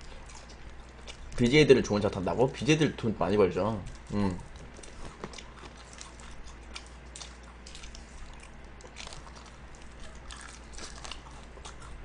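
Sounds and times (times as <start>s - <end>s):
person chewing fried chicken: 0.0s - 1.5s, 3.7s - 12.0s.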